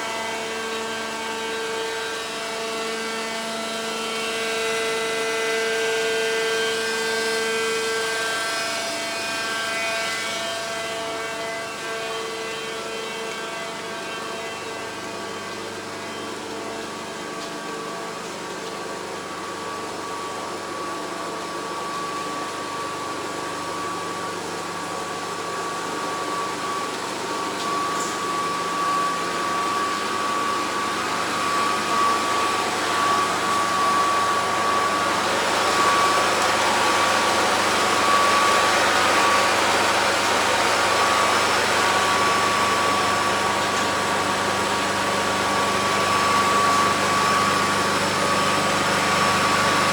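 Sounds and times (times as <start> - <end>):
machinery drone with high whine: 0.0 - 49.9.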